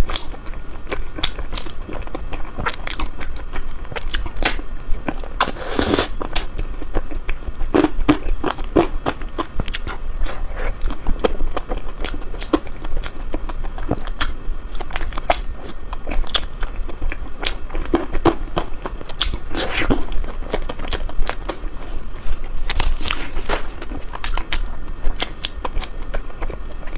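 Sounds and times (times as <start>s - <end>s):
biting and chewing ice cream: 0.0s - 26.9s.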